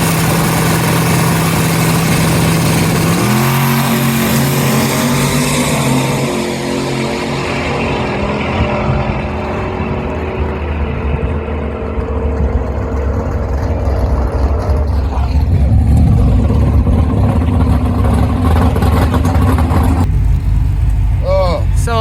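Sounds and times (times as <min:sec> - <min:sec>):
race car engine roaring: 0:00.0 - 0:22.0.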